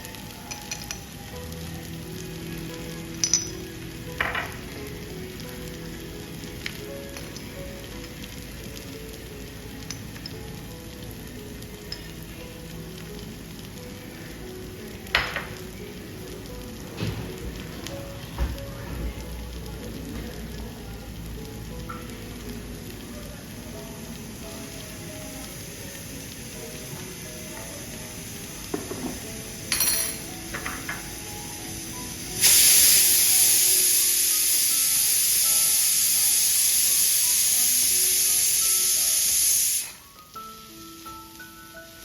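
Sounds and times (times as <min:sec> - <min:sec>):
food sizzling in a pan: 0:00.0 - 0:42.0
soft background music: 0:00.0 - 0:42.0.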